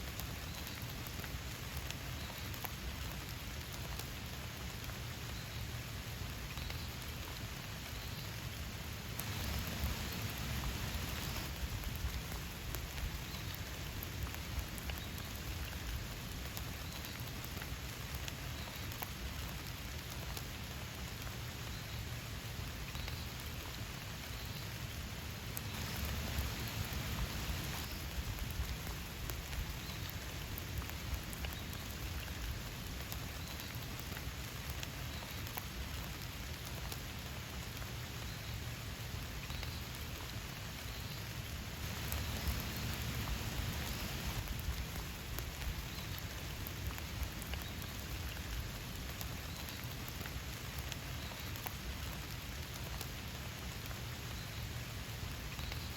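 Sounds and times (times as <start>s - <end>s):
steady rain with ticking drops: 0.0s - 55.9s.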